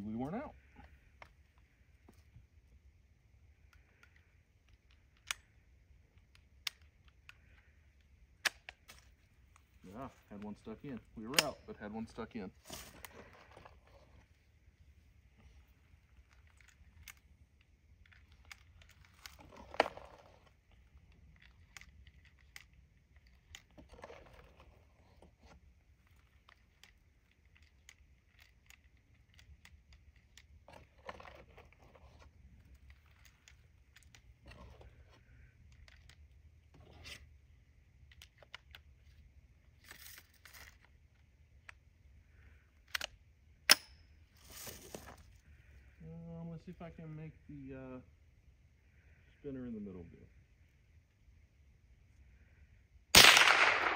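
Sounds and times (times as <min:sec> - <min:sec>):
rifle reloading clicks and rustles: 0:00.1 - 0:45.8, 0:52.4 - 0:53.9.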